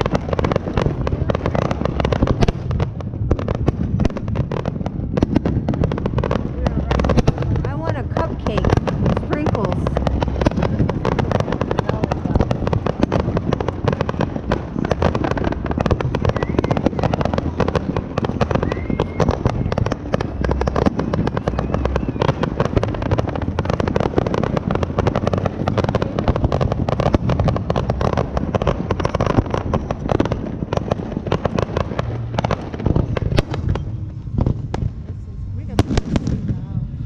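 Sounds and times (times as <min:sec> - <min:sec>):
fireworks popping and banging: 0:00.0 - 0:37.0
low booming: 0:00.0 - 0:37.0.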